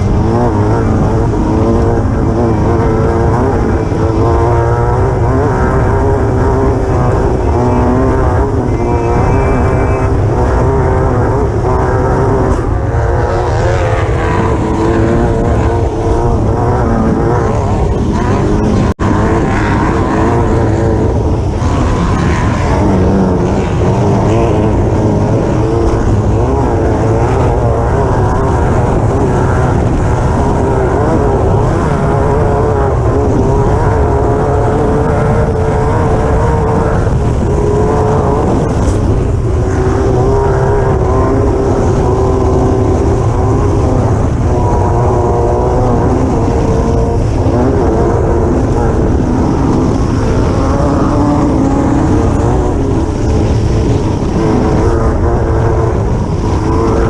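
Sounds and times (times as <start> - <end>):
engine running at high revs: 0.0 - 57.0
heavy low rumble: 0.0 - 57.0.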